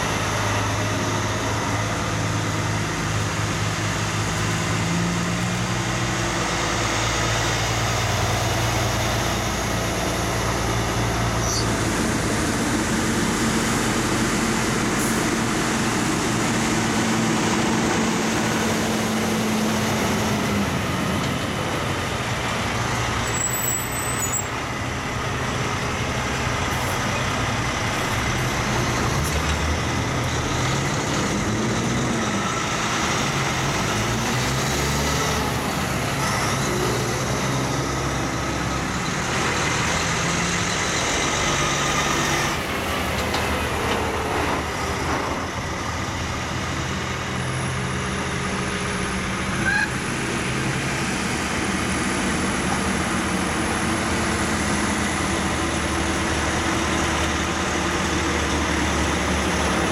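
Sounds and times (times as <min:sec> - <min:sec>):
trucks driving past: 0:00.0 - 0:59.9.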